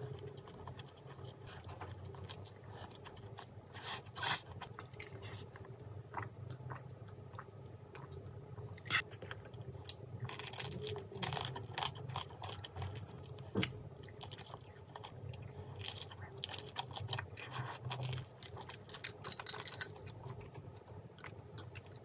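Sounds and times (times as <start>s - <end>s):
person chewing with wet smacking: 0.0s - 10.0s, 10.7s - 22.0s.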